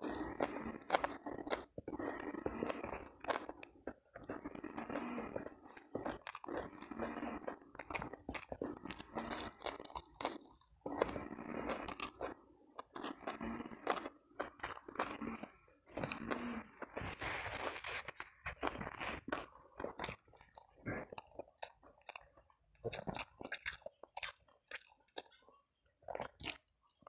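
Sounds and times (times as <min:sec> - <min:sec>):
person chewing and crunching food: 0:00.0 - 0:27.0.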